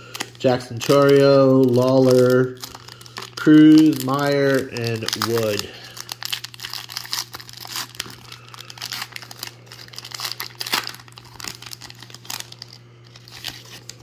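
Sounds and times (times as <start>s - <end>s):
wrapper tearing and crinkling: 0.0s - 14.0s.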